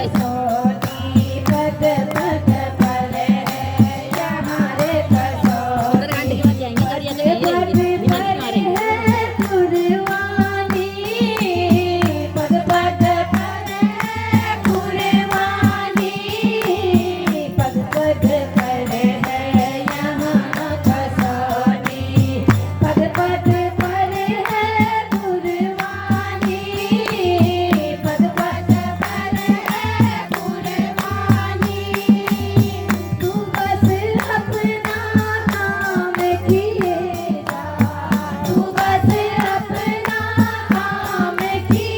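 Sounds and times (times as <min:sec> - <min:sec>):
jingling hand percussion: 0:00.0 - 0:41.9
woman singing: 0:00.0 - 0:41.9.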